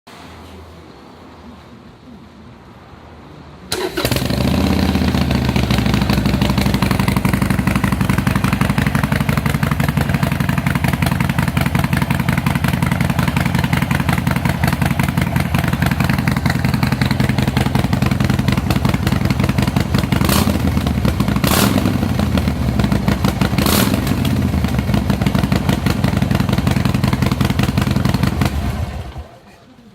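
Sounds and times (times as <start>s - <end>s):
motorcycle engine idling: 3.7s - 29.4s.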